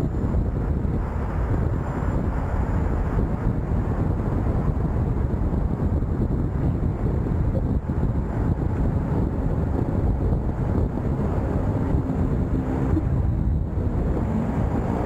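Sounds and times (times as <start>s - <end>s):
tyre and road noise: 0.0s - 15.0s
wind rumble on microphone: 0.0s - 15.0s.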